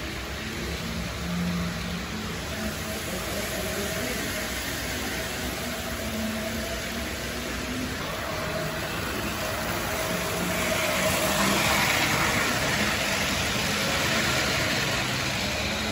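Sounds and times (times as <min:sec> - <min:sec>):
model train motors whirring: 0:00.0 - 0:15.9
wheels rolling on track: 0:00.0 - 0:15.9.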